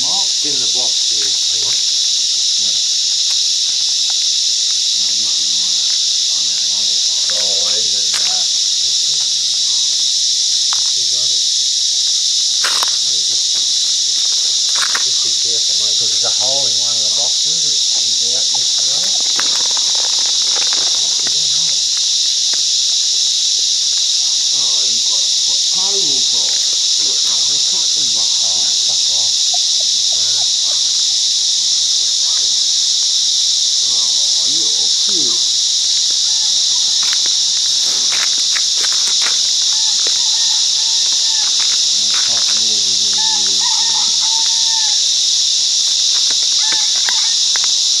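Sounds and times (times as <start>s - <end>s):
cicada chorus drone: 0.0s - 48.0s.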